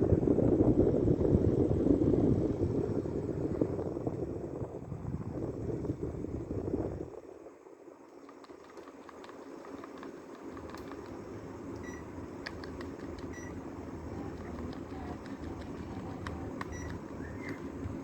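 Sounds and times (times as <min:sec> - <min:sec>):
air conditioner fan and hum: 0:00.0 - 0:18.0.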